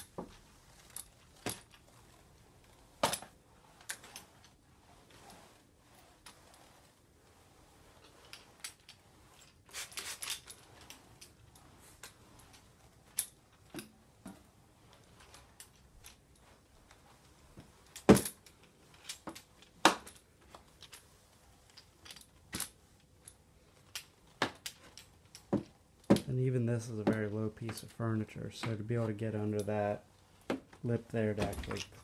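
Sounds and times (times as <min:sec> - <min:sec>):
spray mop clicking on wooden floor: 0:00.0 - 0:18.3, 0:24.2 - 0:32.0.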